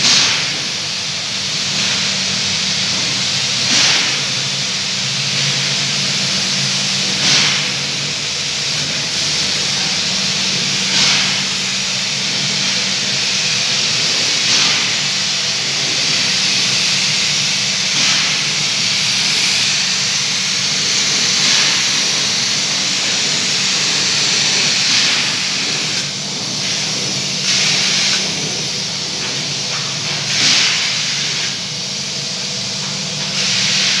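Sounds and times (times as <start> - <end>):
compressed air spray gun hissing: 0.0 - 34.0.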